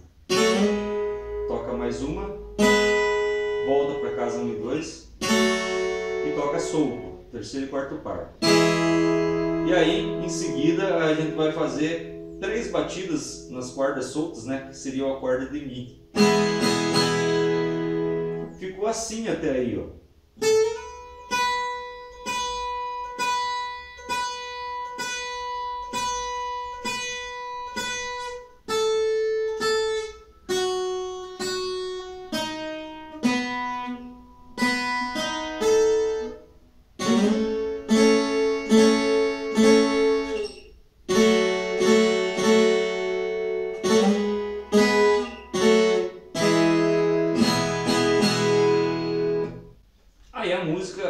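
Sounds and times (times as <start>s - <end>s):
plucked ten-string guitar: 0.0s - 18.6s, 20.4s - 49.8s.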